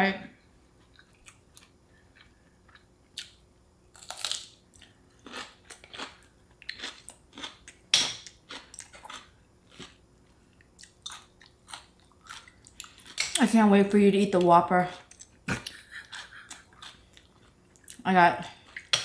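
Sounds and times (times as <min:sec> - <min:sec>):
person chewing food: 0:00.8 - 0:03.4, 0:04.0 - 0:13.4, 0:14.9 - 0:19.0
food crunching: 0:00.8 - 0:13.4, 0:14.4 - 0:19.0.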